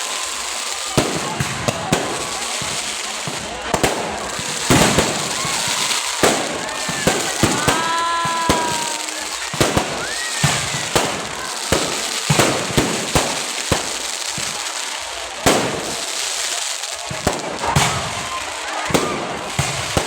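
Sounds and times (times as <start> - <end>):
firework bangs: 0.0 - 20.0
fireworks crackling: 0.0 - 20.0.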